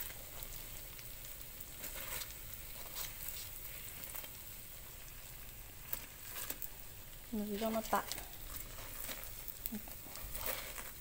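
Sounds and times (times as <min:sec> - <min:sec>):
food sizzling in oil: 0:00.0 - 0:11.0
small crackles: 0:00.0 - 0:11.0.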